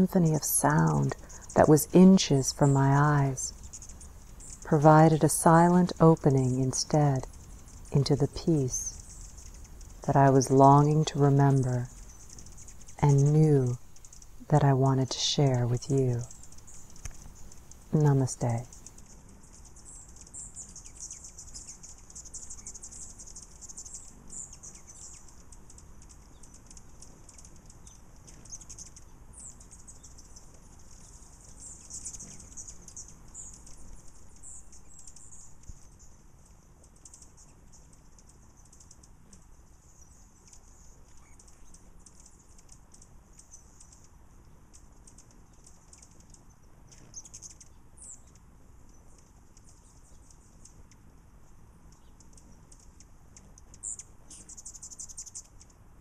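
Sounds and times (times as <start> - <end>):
hummingbirds chattering: 0.0 - 55.8.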